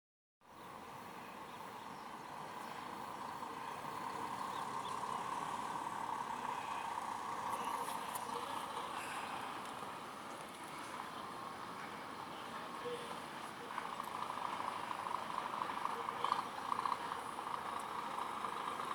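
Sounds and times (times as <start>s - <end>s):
truck engine running: 0.5s - 18.9s.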